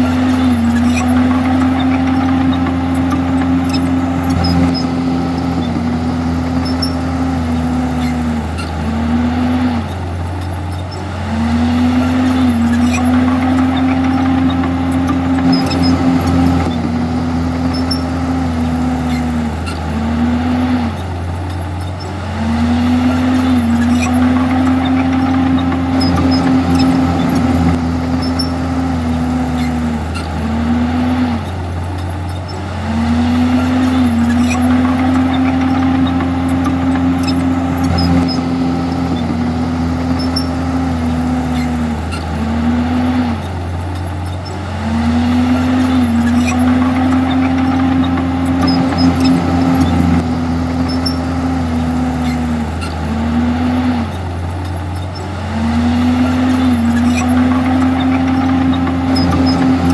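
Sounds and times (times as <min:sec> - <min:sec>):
bulldozer diesel engine running hard: 0:00.0 - 0:59.9.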